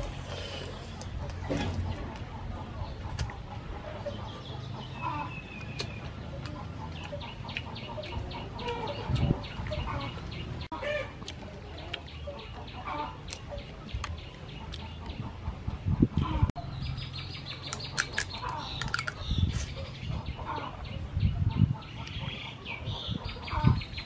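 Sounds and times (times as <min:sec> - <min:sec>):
chickens clucking: 0:00.0 - 0:16.6, 0:17.6 - 0:24.0.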